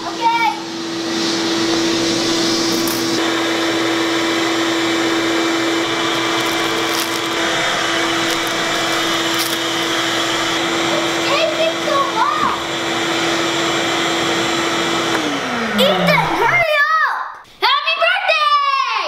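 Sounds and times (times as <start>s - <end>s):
shop vacuum running: 0.0s - 16.8s.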